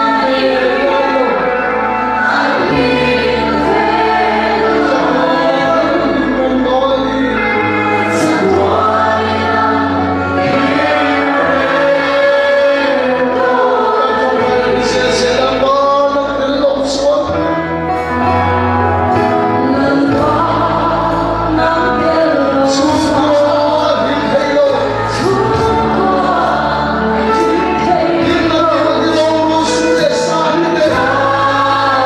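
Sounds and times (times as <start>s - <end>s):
bass notes: 0.0s - 32.0s
congregation singing a hymn: 0.0s - 32.0s
instrumental accompaniment: 0.0s - 32.0s.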